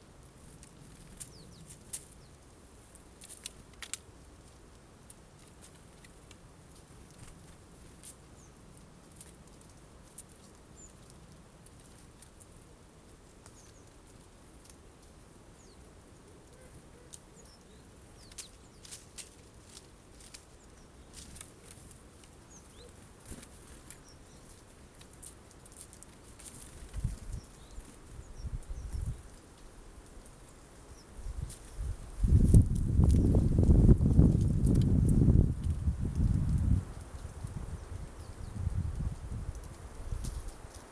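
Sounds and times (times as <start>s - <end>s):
birds pecking seeds: 0.0s - 40.9s.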